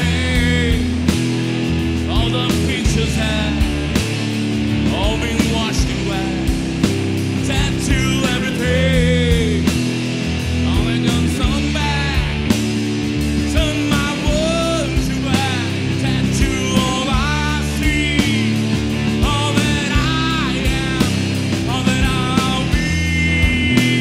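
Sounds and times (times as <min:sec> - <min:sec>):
person singing: 0:00.0 - 0:01.1, 0:02.1 - 0:03.9, 0:04.8 - 0:06.6, 0:07.4 - 0:09.8, 0:10.6 - 0:12.5, 0:13.4 - 0:24.0
bass guitar: 0:00.0 - 0:24.0
drum kit beating: 0:00.0 - 0:24.0
electric guitars: 0:00.0 - 0:24.0.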